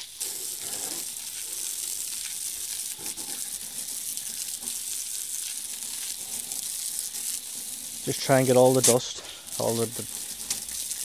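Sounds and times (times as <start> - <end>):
water spraying on a wheel: 0.0 - 11.0.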